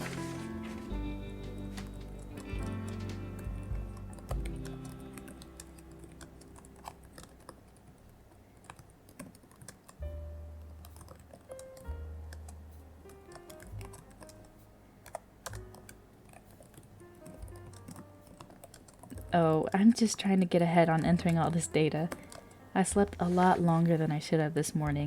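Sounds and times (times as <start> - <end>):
soft background music: 0.0 - 25.0
typing on computer keyboard: 1.8 - 10.0, 10.6 - 23.2.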